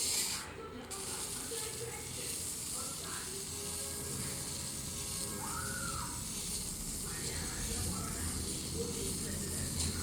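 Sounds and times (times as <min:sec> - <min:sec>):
chip rubbed on sandpaper: 0:00.0 - 0:10.0.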